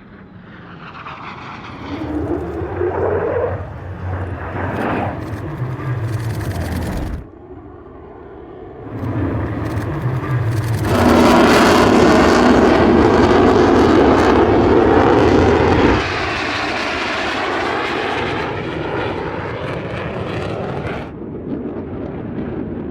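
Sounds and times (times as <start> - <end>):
jet engine running: 0.0 - 7.6, 8.8 - 21.1.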